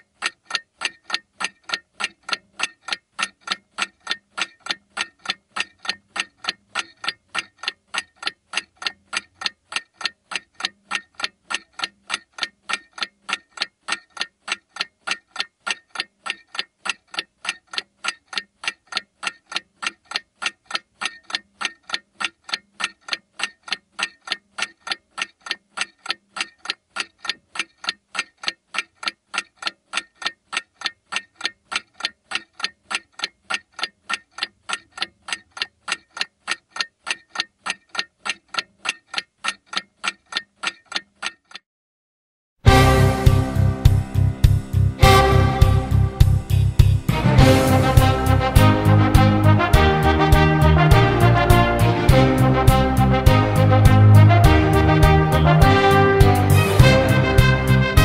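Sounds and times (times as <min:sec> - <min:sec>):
rapid clock-like ticking: 0:00.0 - 0:41.6, 0:42.7 - 0:58.0.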